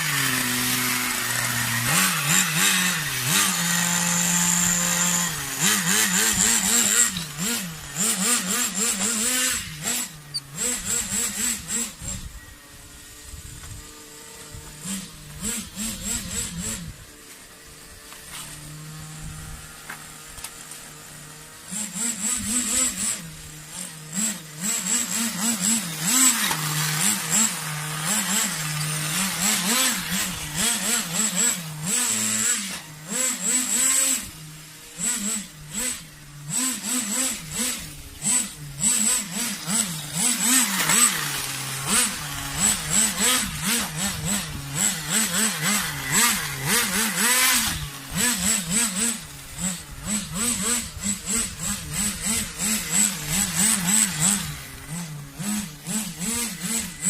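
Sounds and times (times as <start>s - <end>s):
rc car engine revving: 0.0s - 57.0s.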